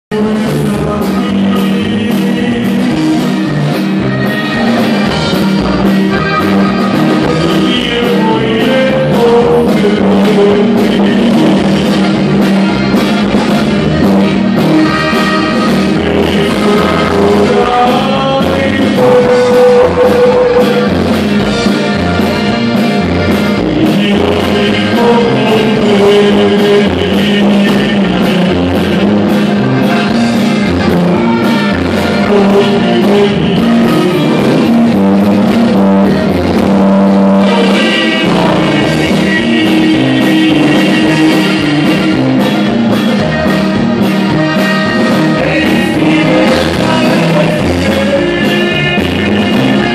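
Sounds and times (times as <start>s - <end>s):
bass: 0.0s - 49.9s
button accordion melody: 0.1s - 49.9s
guitars: 0.1s - 49.9s
steady drum beat: 0.1s - 49.9s.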